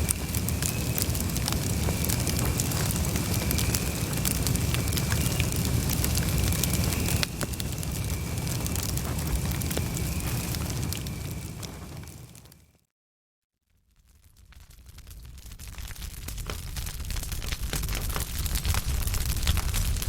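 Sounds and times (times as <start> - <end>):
campfire flames rumbling: 0.0 - 12.7, 14.0 - 20.0
fire crackling and popping: 0.0 - 12.7, 13.9 - 20.0.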